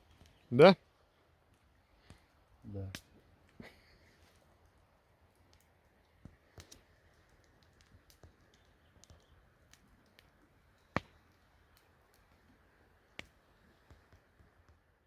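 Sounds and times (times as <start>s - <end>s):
faint small clicks and taps: 1.5s - 14.9s.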